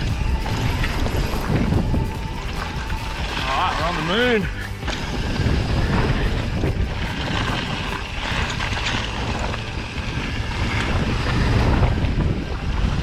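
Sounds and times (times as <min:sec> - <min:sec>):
bike rattling: 0:00.0 - 0:13.0
tyres crunching over gravel: 0:00.0 - 0:13.0
wind buffeting microphone: 0:00.0 - 0:13.0.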